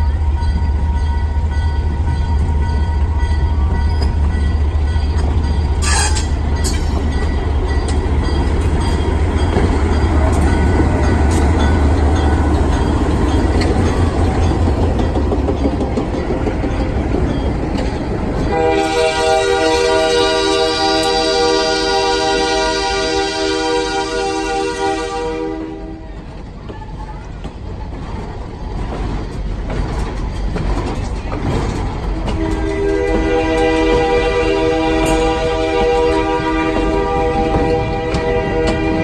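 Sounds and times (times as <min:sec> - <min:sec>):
train wheels rolling on rails: 0:00.0 - 0:24.9, 0:25.5 - 0:39.0
diesel locomotive engine rumble: 0:00.0 - 0:39.0.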